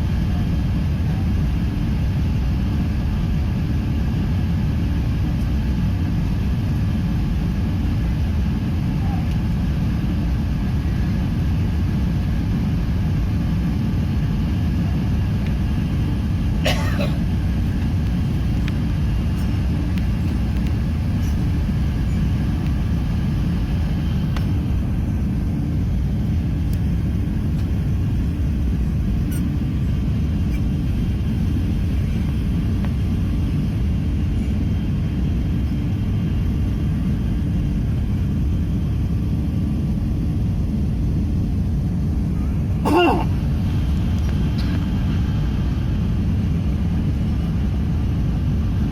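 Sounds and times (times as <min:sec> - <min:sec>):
airplane engine and airflow rumble: 0:00.0 - 0:48.9.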